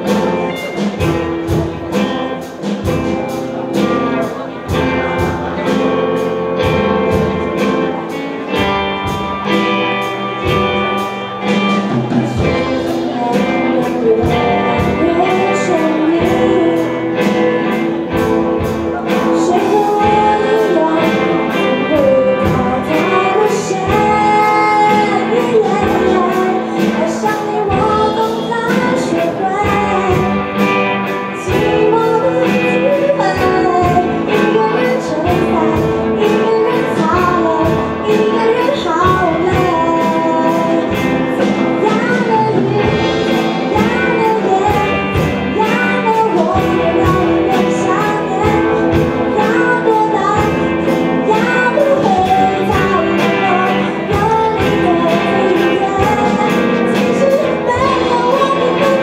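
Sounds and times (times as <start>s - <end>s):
drum kit: 0.0s - 59.0s
electric guitars: 0.0s - 59.0s
woman singing: 0.0s - 59.0s.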